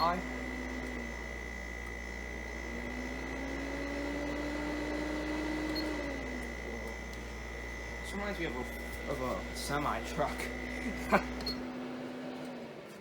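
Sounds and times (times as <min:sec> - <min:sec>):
air conditioner fan hum: 0:00.0 - 0:13.0.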